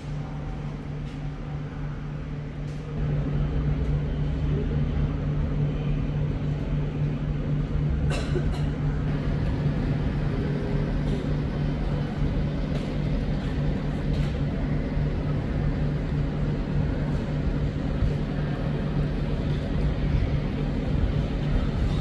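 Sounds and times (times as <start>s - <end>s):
vehicle engine drone: 2.7s - 22.0s.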